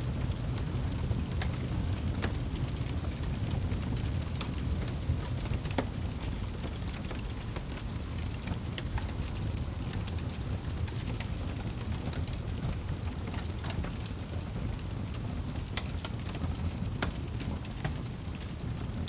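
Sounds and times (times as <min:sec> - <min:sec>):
low rumble of burning logs: 0:00.0 - 0:19.0
wood fire snapping and popping: 0:00.0 - 0:19.0.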